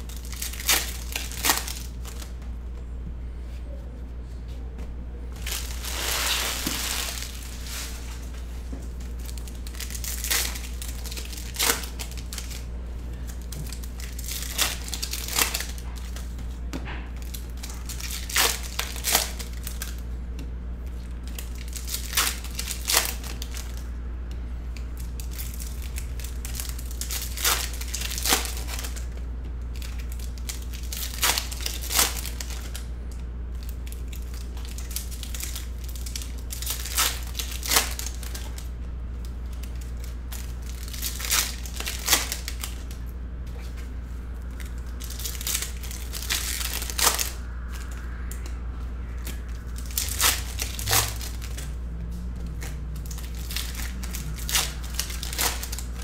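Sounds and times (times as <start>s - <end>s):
foil wrappers tearing and crinkling: 0.0s - 2.3s, 5.4s - 16.6s, 17.2s - 20.0s, 21.2s - 23.9s, 25.0s - 32.9s, 33.6s - 43.0s, 44.5s - 48.1s, 49.2s - 51.8s, 52.5s - 56.0s
steady low hum: 0.0s - 56.0s.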